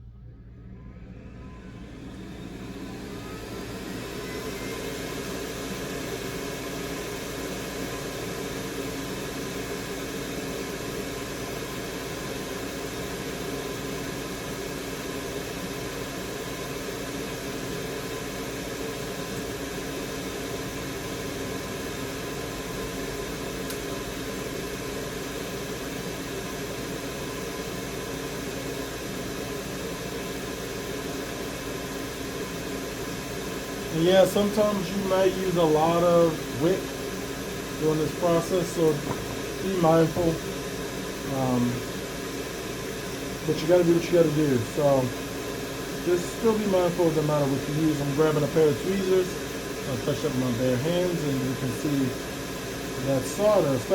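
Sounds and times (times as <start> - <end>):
extractor fan running: 0.0 - 53.9.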